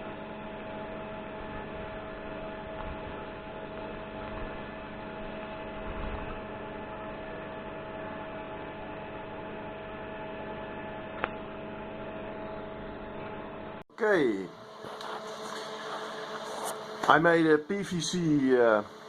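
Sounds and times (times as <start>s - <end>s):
welding arc humming: 0.0s - 19.0s.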